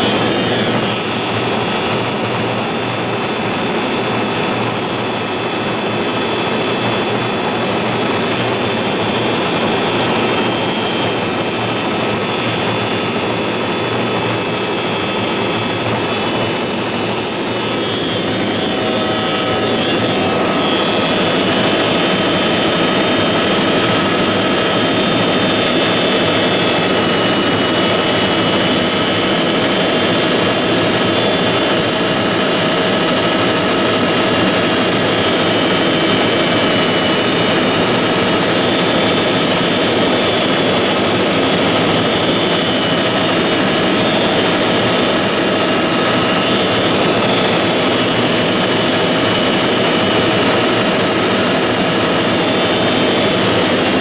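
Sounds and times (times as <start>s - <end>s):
helicopter engine whine: 0.0s - 54.0s.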